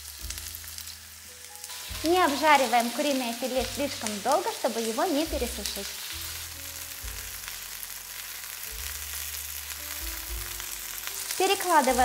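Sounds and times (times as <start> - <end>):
chicken sizzling in oil: 0.0 - 12.0
soft background music: 0.0 - 12.0.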